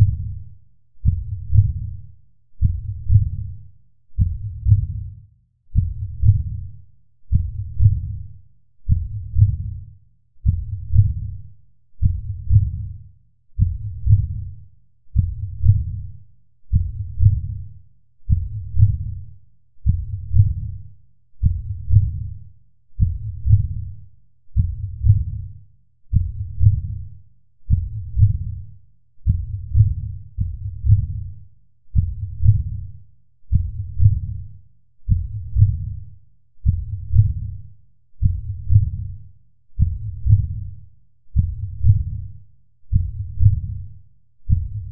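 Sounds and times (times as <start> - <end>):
slow heartbeat: 0.0 - 0.4, 1.0 - 2.0, 2.6 - 3.6, 4.2 - 17.7, 18.3 - 22.4, 23.0 - 24.0, 24.6 - 44.9.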